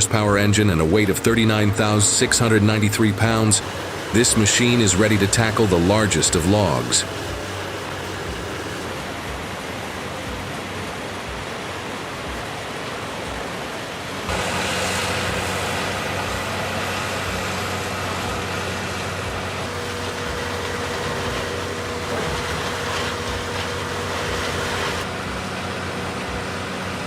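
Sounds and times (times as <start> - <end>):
heavy machinery running: 0.0 - 27.0.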